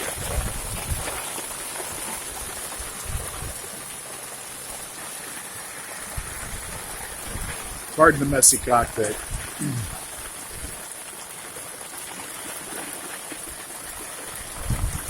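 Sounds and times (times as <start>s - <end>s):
hail and rain on a boat: 0.0s - 15.0s.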